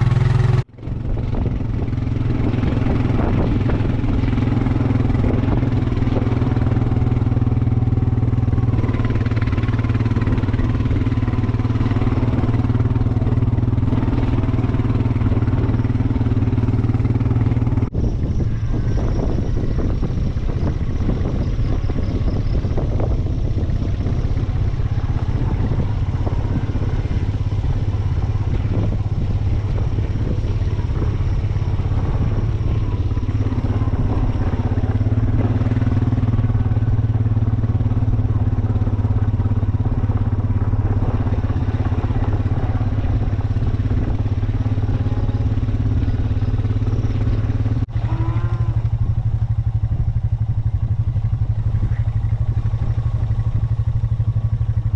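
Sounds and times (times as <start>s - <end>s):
vehicle engine humming: 0.0s - 54.9s.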